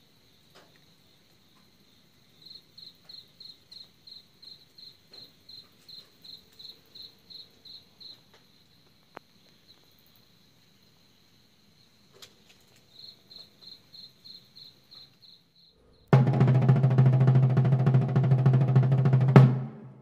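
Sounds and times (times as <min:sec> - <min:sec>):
cricket chirping: 0:00.0 - 0:19.2
high insect trill: 0:00.0 - 0:19.2.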